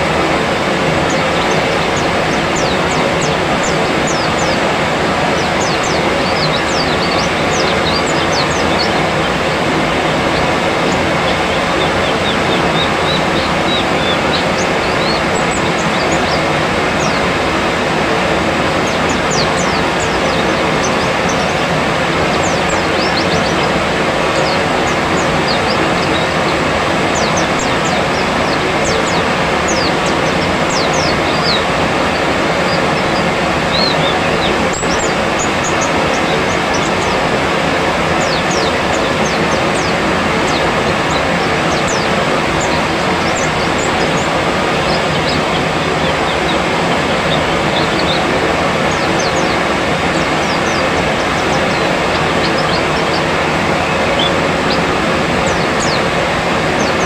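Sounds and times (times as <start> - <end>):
birds giving thin high calls: 0.0 - 57.0
steady loud rushing noise: 0.0 - 57.0.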